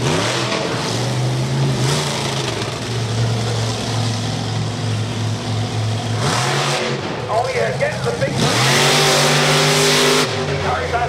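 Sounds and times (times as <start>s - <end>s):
monster truck engine running: 0.0s - 11.0s.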